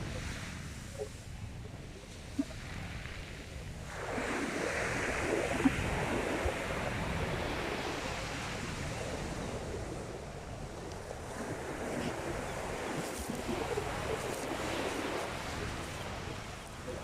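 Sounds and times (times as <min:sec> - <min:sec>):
sea waves breaking on beach: 0:01.9 - 0:17.0.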